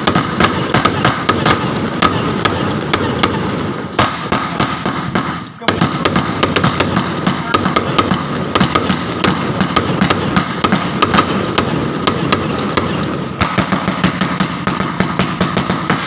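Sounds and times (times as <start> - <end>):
firecrackers going off: 0.0 - 16.0.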